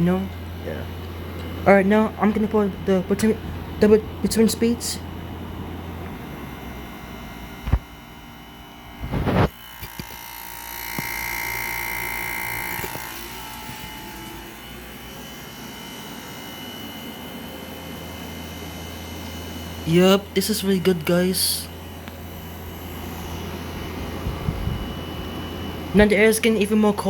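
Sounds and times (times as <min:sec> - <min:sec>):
air conditioner humming: 0:00.0 - 0:27.0
high whine: 0:00.0 - 0:27.0.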